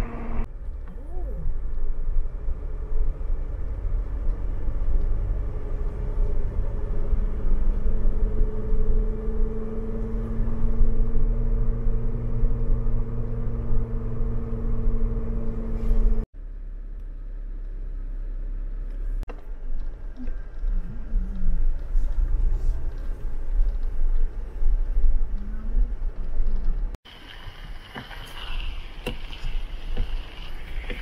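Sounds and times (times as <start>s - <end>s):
vehicle driving: 0.0s - 31.0s.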